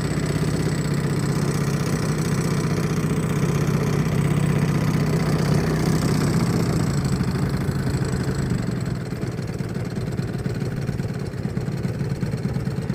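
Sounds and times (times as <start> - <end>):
model airplane engine idling: 0.0 - 12.9.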